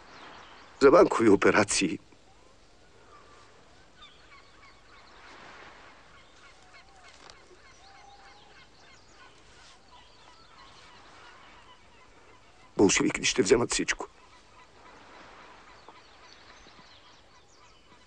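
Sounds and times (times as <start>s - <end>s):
faint bird calls: 0.0s - 18.0s.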